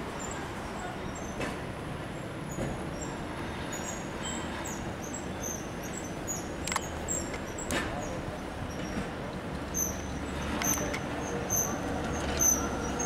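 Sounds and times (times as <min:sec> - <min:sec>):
electric tram approaching: 0:00.0 - 0:13.0
street background: 0:00.0 - 0:13.0.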